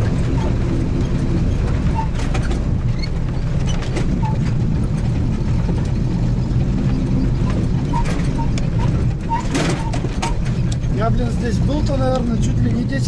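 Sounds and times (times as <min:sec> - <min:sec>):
knocks and rattles over bumps: 0:00.0 - 0:13.0
vehicle engine and tyre rumble: 0:00.0 - 0:13.0.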